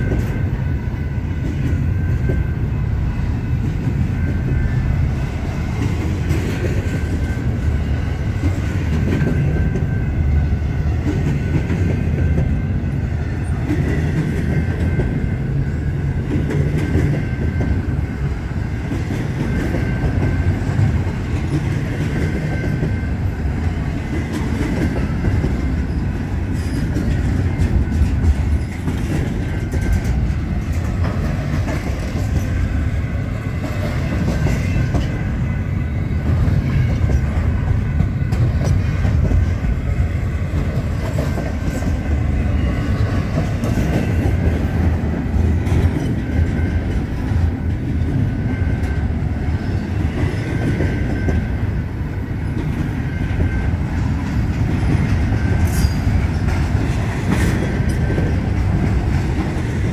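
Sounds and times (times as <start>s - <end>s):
freight train low rumble: 0.0s - 59.9s
steel wheels clattering on rails: 0.0s - 59.9s.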